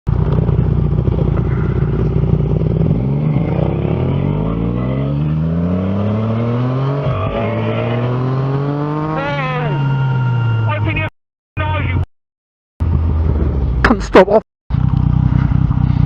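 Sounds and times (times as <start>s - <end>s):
motorcycle engine accelerating: 0.1s - 11.1s, 12.8s - 14.1s, 14.7s - 16.0s.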